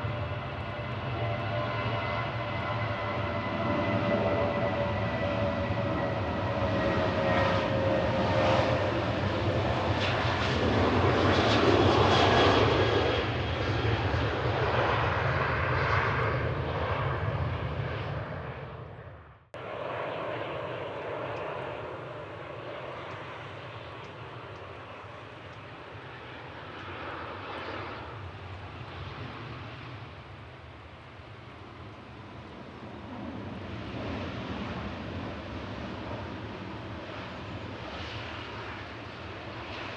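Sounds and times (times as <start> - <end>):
jet airliner engines roaring: 0.0 - 39.9.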